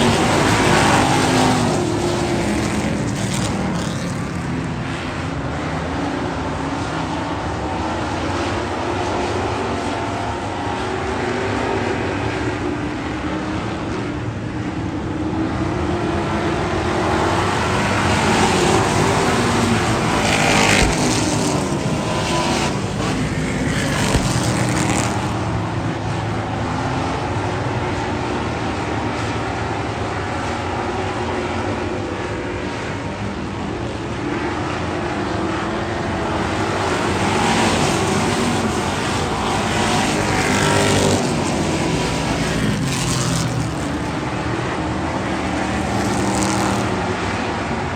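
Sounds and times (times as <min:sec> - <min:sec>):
race car engines passing: 0:00.0 - 0:47.9.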